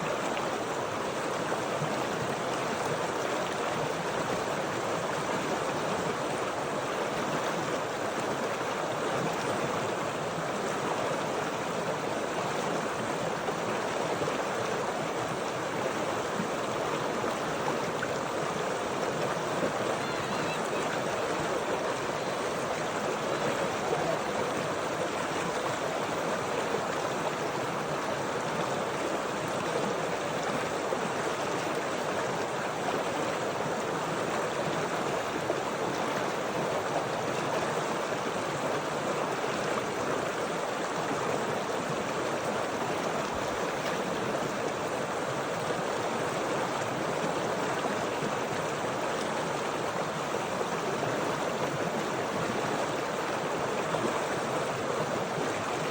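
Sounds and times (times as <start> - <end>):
stream water flowing: 0.0 - 55.9.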